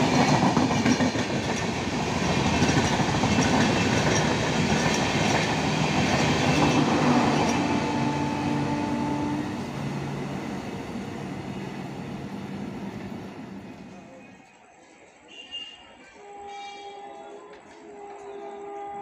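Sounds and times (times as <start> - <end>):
passenger train passing: 0.0 - 14.7, 16.0 - 19.0.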